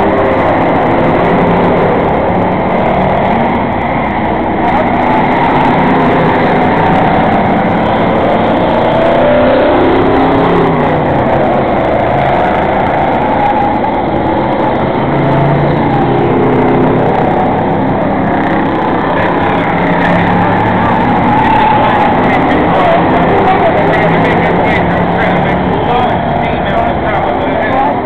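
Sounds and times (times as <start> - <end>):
race car engines: 0.0 - 28.0.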